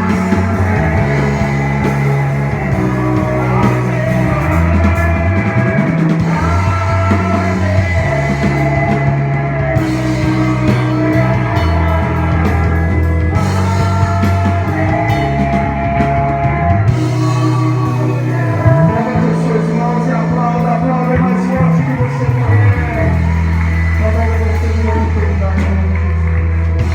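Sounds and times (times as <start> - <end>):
person singing: 0.0 - 26.9
sustained bass line: 0.0 - 26.9
worship band music: 0.0 - 26.9.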